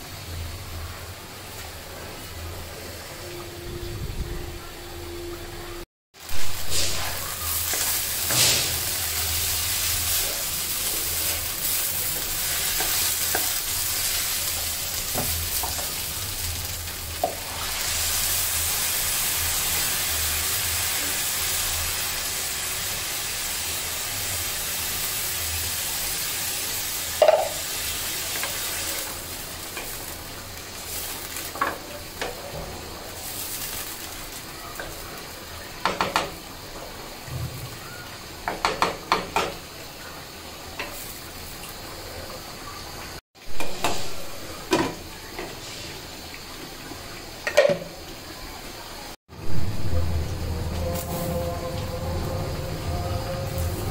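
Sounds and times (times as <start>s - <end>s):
rice sizzling in a pan: 6.2s - 53.9s.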